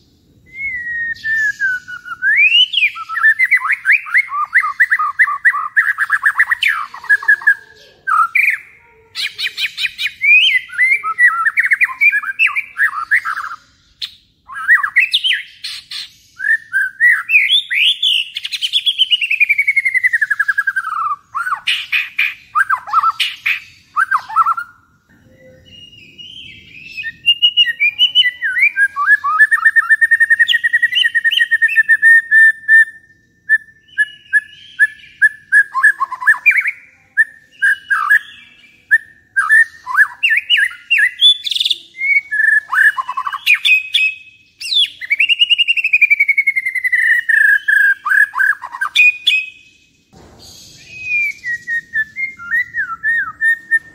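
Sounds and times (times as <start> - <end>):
songbird singing whistled phrases: 0.0 - 53.9.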